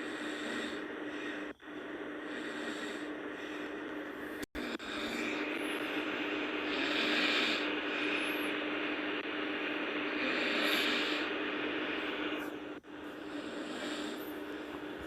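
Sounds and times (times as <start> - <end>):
person snoring heavily: 0.0 - 8.6, 9.6 - 12.5, 13.1 - 15.0
steady low hum: 0.0 - 15.0.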